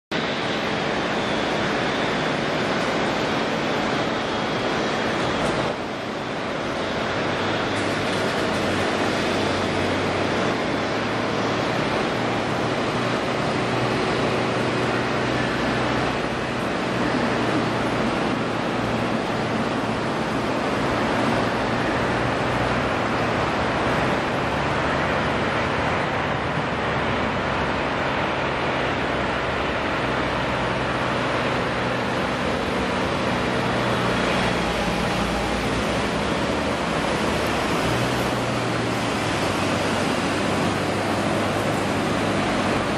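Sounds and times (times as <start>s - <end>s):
jet engine rushing noise: 0.1s - 42.9s.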